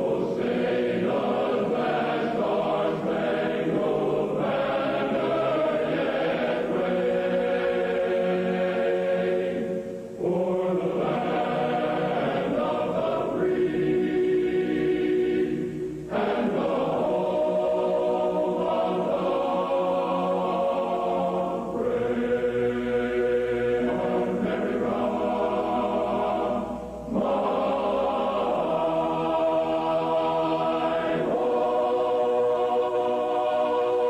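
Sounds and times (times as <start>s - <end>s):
choir singing held chords: 0.0s - 34.0s.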